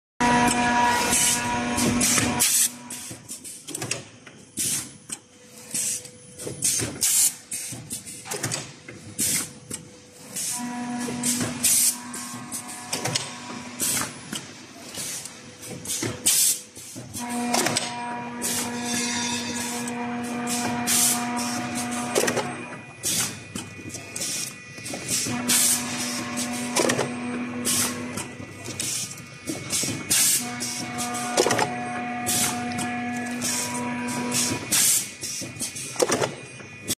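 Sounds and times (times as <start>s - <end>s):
mechanical clacks: 0.3s - 36.9s.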